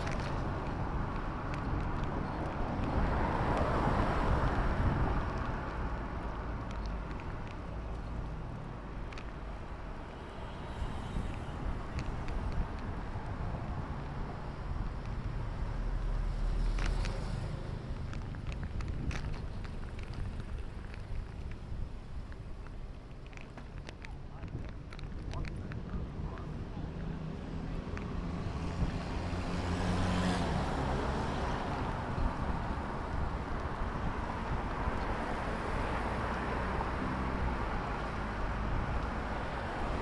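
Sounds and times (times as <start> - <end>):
bicycle tyre and road rumble: 0.0 - 40.0
traffic: 0.0 - 40.0.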